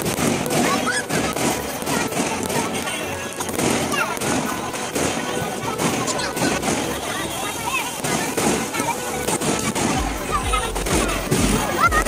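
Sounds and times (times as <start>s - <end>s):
crowd voices: 0.0s - 12.0s
fireworks bangs and crackles: 0.0s - 12.0s
music: 0.0s - 12.0s.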